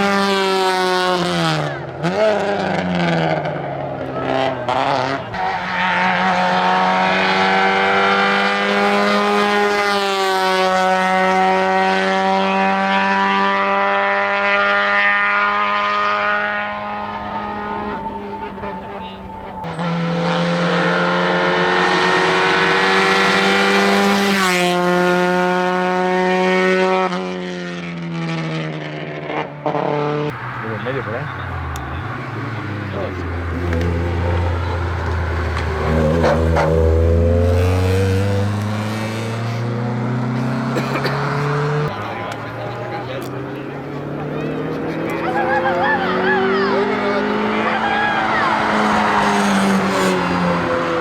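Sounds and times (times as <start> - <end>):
race car engine at high revs: 0.0 - 51.0.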